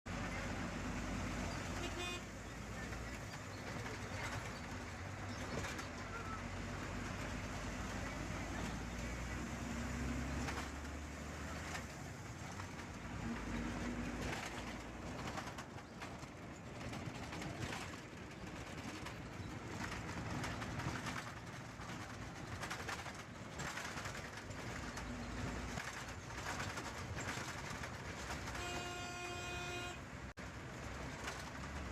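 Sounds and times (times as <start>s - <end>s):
bus engine and road rumble: 0.1s - 31.9s.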